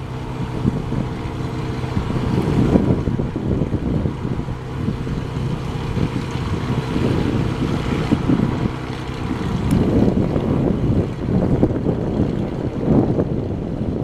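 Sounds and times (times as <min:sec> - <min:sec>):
light aircraft engine droning: 0:00.0 - 0:14.0
wind buffeting microphone: 0:00.0 - 0:14.0.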